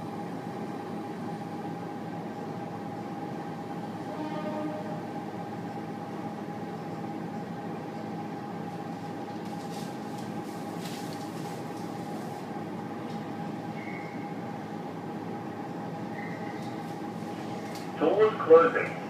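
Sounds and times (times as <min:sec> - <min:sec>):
constant electrical whine: 0:00.0 - 0:19.0
train carriage hum: 0:00.0 - 0:19.0.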